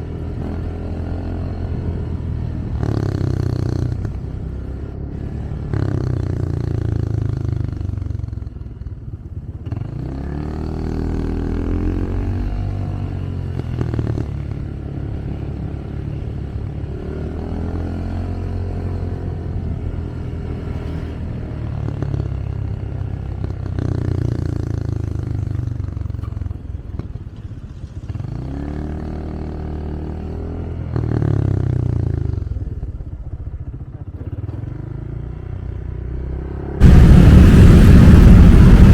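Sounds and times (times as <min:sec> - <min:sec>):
motorcycle engine accelerating: 0:00.0 - 0:38.9
road and wind noise: 0:00.0 - 0:38.9.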